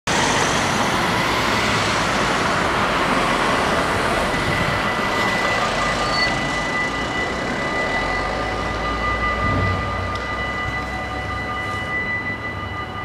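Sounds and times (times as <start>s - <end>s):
crossing warning bells: 0.1s - 13.0s
road traffic passing: 0.1s - 13.0s.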